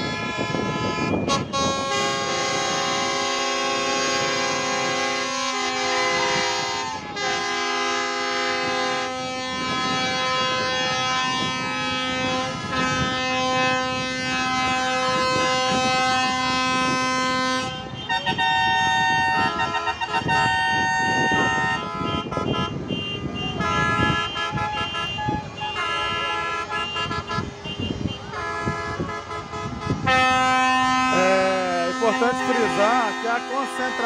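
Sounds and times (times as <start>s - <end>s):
car horns: 0.0s - 34.0s
truck air horns: 0.0s - 34.0s.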